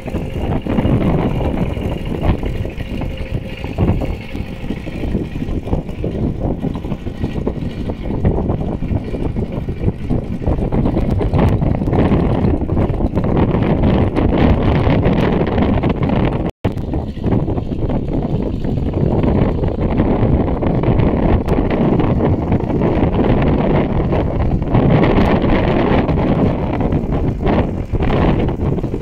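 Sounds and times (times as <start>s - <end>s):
tractor engine running: 0.0s - 29.0s
wind on microphone: 0.0s - 29.0s.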